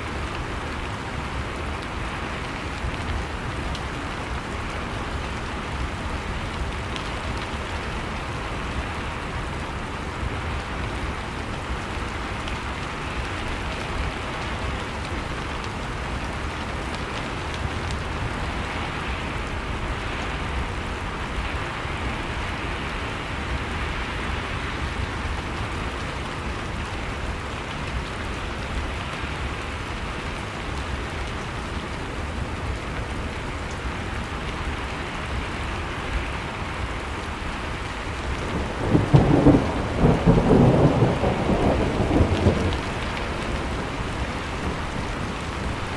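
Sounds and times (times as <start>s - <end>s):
steady rain patter: 0.0s - 45.9s.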